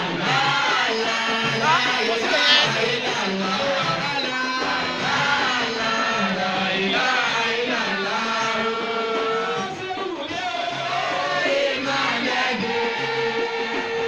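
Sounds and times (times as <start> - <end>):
chant-like singing with sliding notes: 0.0 - 14.0.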